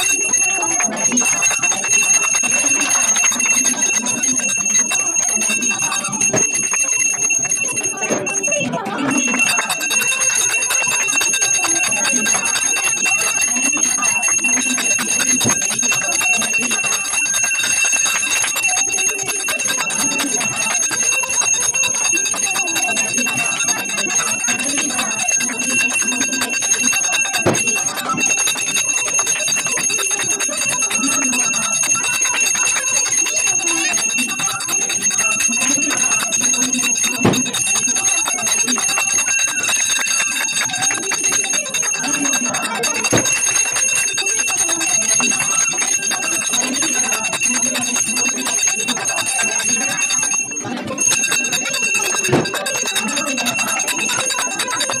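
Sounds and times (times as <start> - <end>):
hand bells ringing: 0.0 - 55.0
hand clapping: 0.0 - 55.0
murmur of voices: 0.0 - 55.0.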